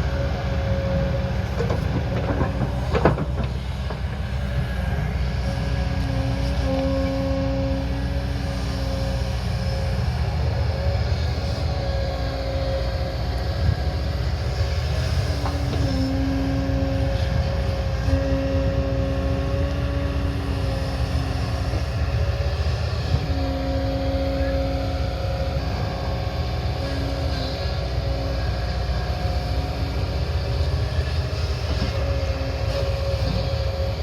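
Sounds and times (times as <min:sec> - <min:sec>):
diesel engine rumble: 0:00.0 - 0:34.0
machine whine: 0:00.0 - 0:34.0.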